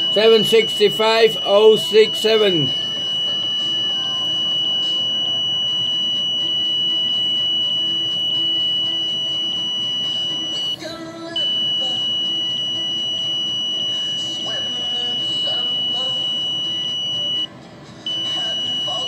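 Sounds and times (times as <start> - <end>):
high-pitched electronic buzzer: 0.0 - 17.5, 18.1 - 19.0.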